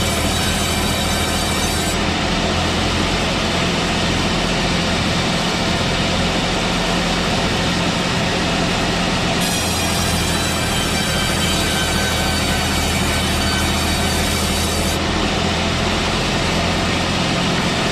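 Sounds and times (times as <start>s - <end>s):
sawmill engine hum: 0.0s - 17.9s.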